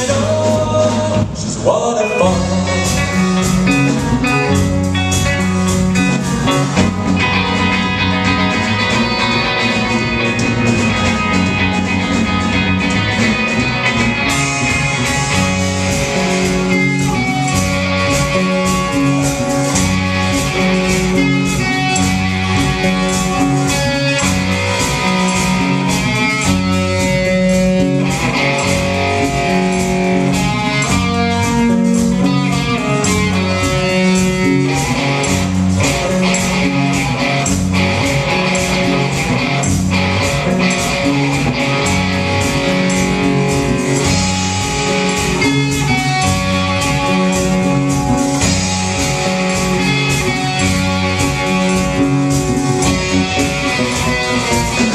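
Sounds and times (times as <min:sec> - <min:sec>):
bass line: 0:00.0 - 0:54.9
guitars playing held notes: 0:00.0 - 0:54.9
steady drum beat: 0:00.0 - 0:54.9.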